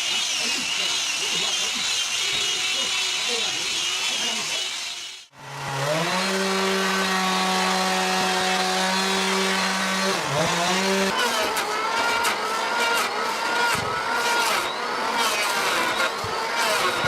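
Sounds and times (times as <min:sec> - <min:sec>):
power tool motor running: 0:00.0 - 0:17.0.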